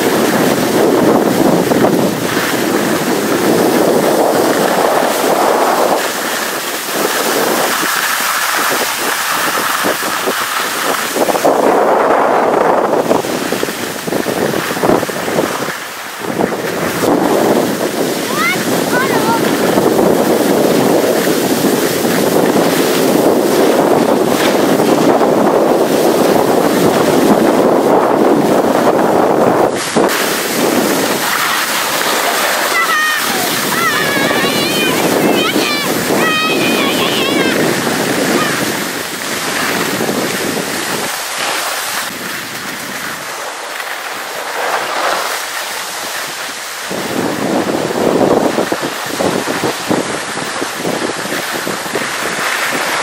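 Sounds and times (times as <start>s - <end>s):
skis hissing on snow: 0.0s - 53.0s
wind buffeting microphone: 0.0s - 53.0s.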